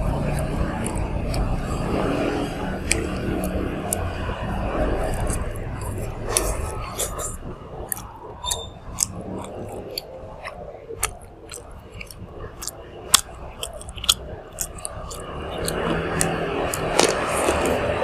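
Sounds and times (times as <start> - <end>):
mouth clicks and smacks: 0.0 - 18.0
wet chewing sounds: 0.0 - 18.0.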